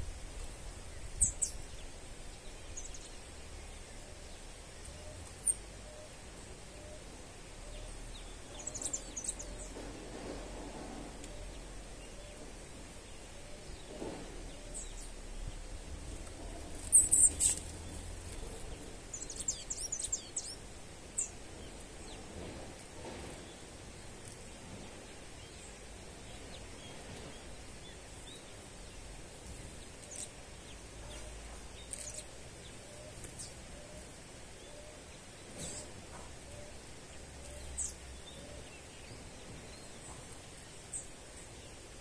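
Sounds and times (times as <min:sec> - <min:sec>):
faint outdoor background noise: 0:00.0 - 0:42.0
songbirds chirping: 0:00.0 - 0:42.0.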